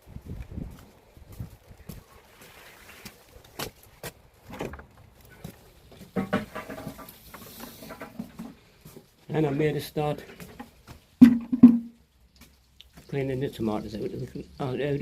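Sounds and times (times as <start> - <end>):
footsteps: 0.0 - 13.3.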